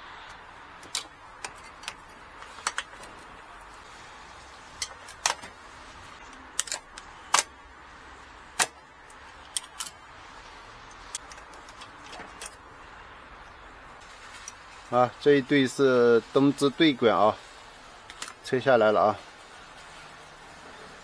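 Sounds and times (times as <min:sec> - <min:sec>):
low steady hiss: 0:00.0 - 0:21.0.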